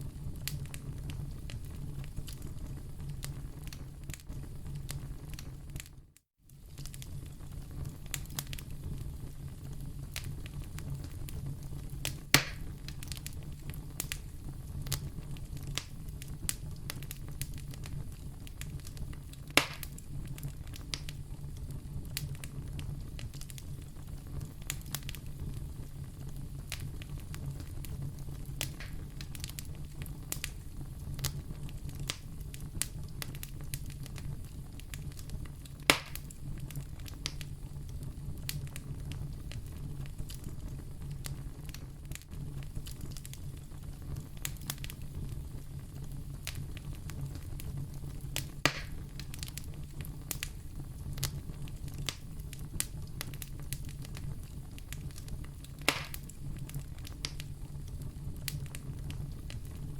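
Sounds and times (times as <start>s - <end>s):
fire crackling: 0.0s - 59.9s
loud pops of fire: 0.0s - 59.9s.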